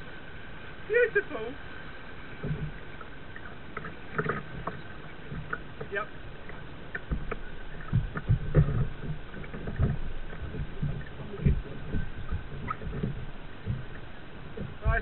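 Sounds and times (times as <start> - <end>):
soft rush of water: 0.0 - 15.0
water slapping kayak hull: 0.9 - 15.0.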